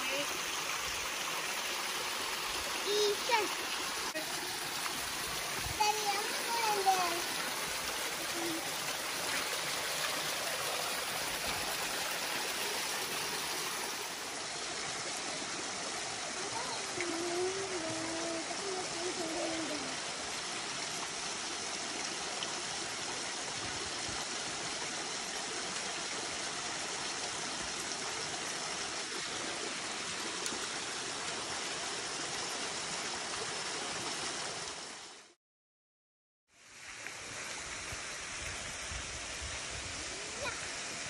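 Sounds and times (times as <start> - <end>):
waterfall rushing over rock: 0.0 - 35.3, 36.8 - 41.0.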